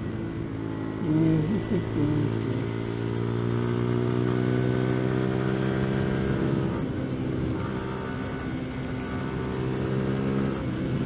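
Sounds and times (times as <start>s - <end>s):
small motorbike engine running: 0.0s - 11.0s.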